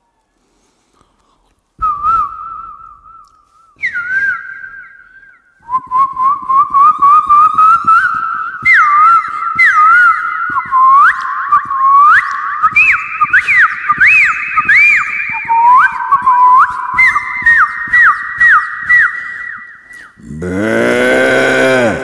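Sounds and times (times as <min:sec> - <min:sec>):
man whistling bird song: 0:01.8 - 0:20.2.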